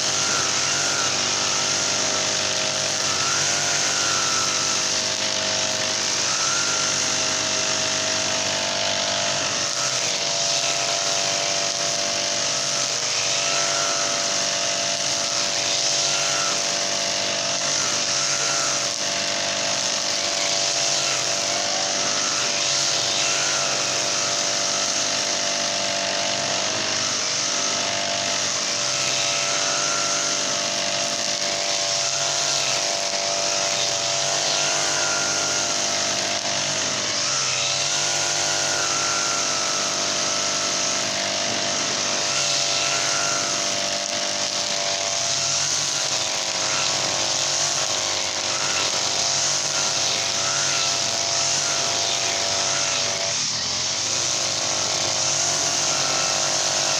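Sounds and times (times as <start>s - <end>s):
brush cutter engine running: 0.0s - 56.9s.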